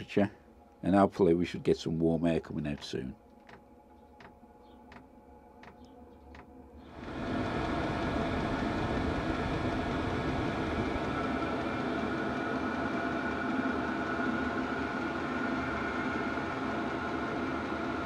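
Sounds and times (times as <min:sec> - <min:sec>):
heater fan and burner humming: 0:00.0 - 0:18.0.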